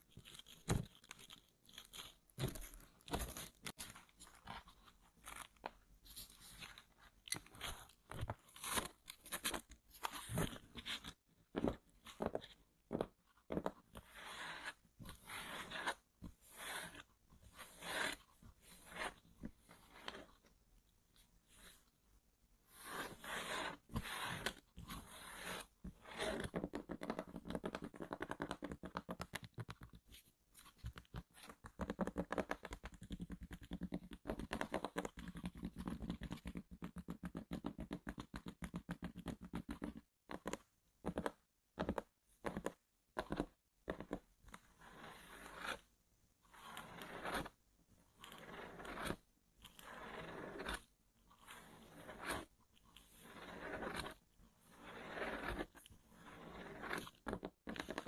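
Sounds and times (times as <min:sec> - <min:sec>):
scratching on cardboard: 0:00.0 - 0:20.5, 0:22.7 - 0:45.9, 0:46.5 - 0:58.0.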